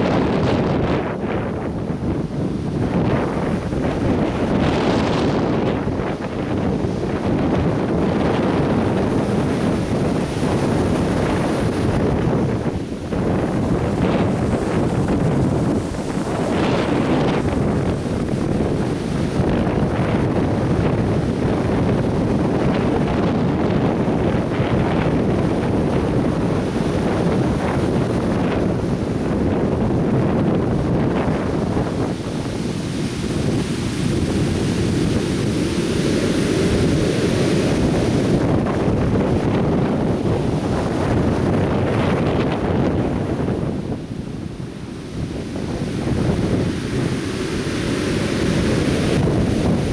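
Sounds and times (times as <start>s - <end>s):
surf breaking on sandy beach: 0.0s - 49.9s
wind buffeting microphone: 0.0s - 49.9s.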